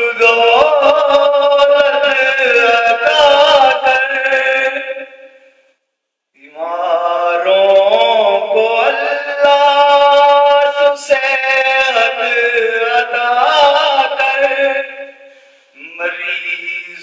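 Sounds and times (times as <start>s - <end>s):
man singing devotional song: 0.0s - 5.6s, 6.4s - 17.0s.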